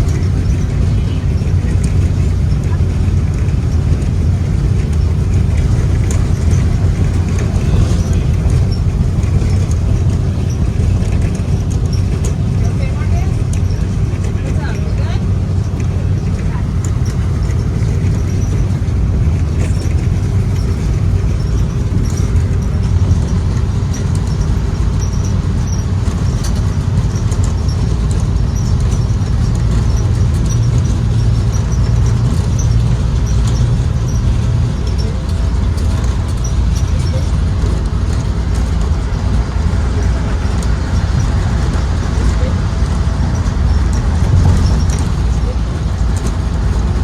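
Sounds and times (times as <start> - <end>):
bus engine and road rumble: 0.0 - 47.0.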